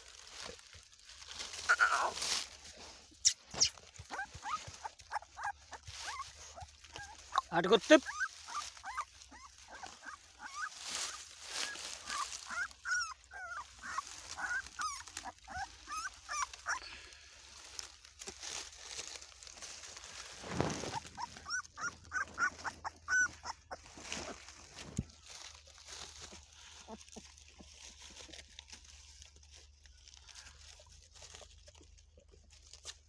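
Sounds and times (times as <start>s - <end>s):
rustle of dry leaves: 0.0s - 33.0s
puppies whimpering: 3.6s - 19.1s, 19.7s - 31.9s.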